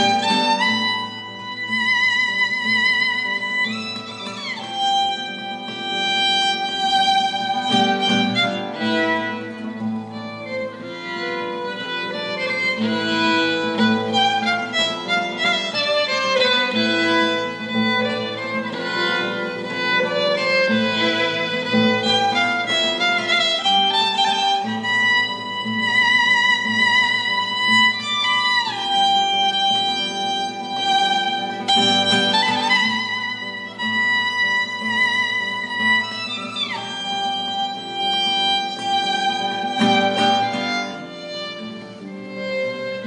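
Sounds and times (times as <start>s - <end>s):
violin note with vibrato: 0.0s - 43.0s.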